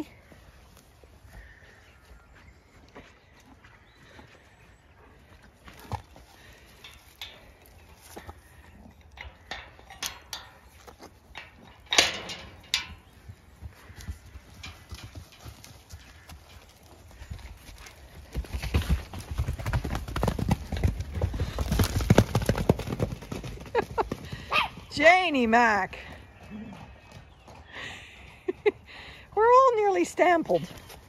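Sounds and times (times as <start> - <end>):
horse hooves clopping: 0.0 - 31.0
horses galloping: 0.0 - 31.0.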